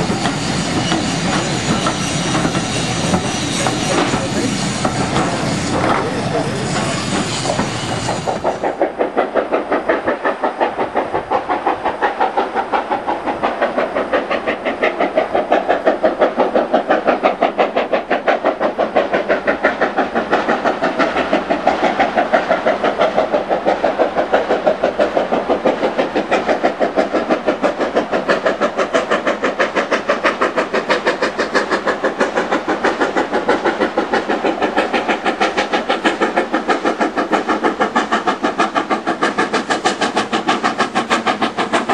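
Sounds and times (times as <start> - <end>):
steam locomotive exhaust beating: 0.0 - 41.9.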